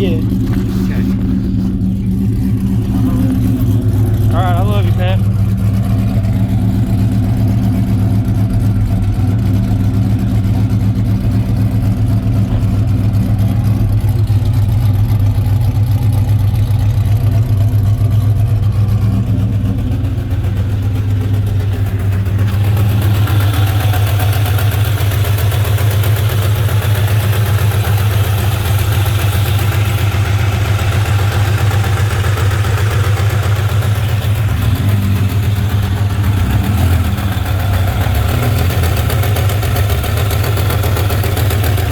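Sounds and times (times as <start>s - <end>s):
engine idling with ticking: 0.0s - 41.9s.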